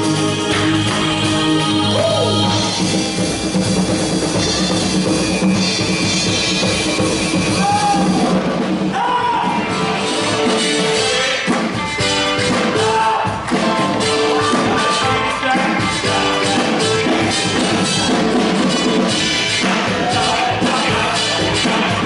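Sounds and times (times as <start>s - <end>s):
conga drum solo: 0.0s - 22.0s
drum kit keeping time: 0.0s - 22.0s.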